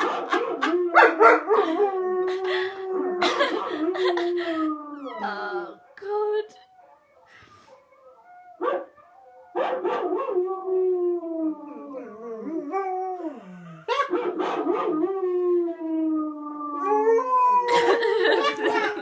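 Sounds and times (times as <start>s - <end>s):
dog howling: 0.0s - 6.0s, 6.6s - 19.0s.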